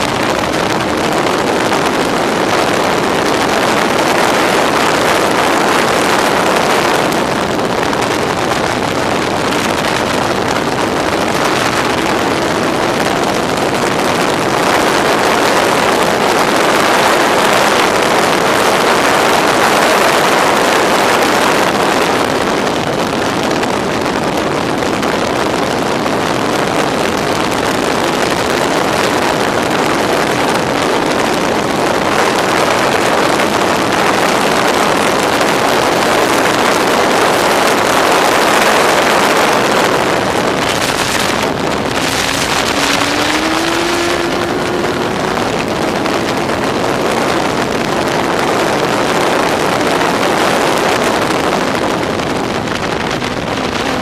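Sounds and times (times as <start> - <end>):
race car engine at speed: 0.0 - 54.0
wind noise on microphone: 0.0 - 54.0.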